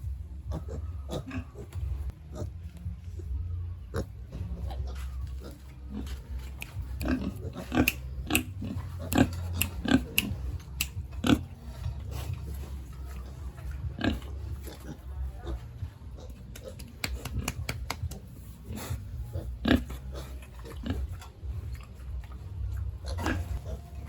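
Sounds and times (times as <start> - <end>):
pigs grunting: 0.4 - 24.0.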